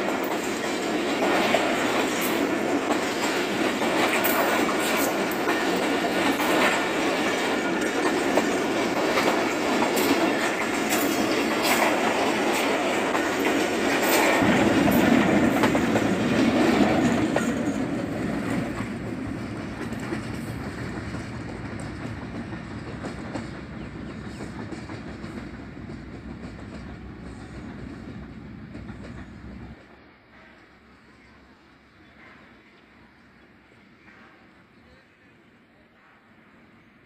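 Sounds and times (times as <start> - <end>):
train wheels clacking over rail joints: 0.0 - 30.7.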